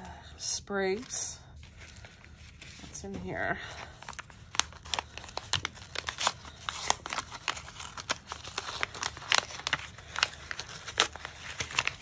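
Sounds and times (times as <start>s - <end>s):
paper envelope crinkling: 0.9s - 12.0s.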